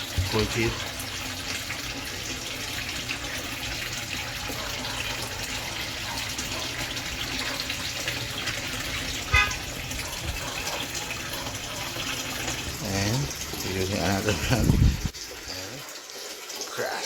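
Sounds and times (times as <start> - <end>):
splashing pond water: 0.0 - 17.0.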